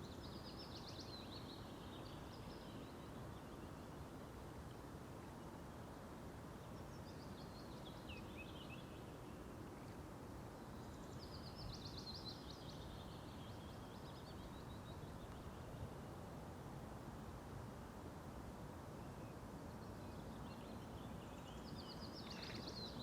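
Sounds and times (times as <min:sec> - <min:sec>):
songbird singing: 0:00.0 - 0:16.2, 0:18.9 - 0:23.0
low outdoor hiss: 0:00.0 - 0:23.0.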